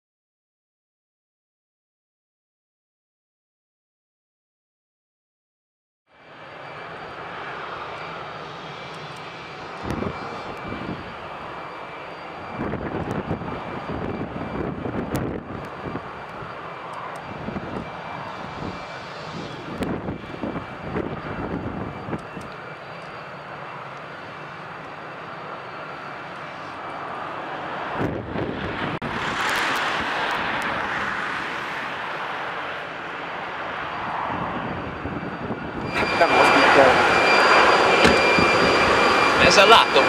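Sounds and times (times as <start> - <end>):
jet engine whine: 6.1 - 40.0.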